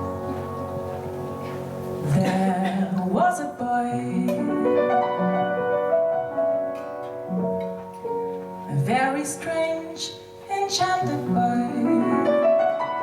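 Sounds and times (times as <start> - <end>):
jazz piano and harp: 0.0 - 13.0.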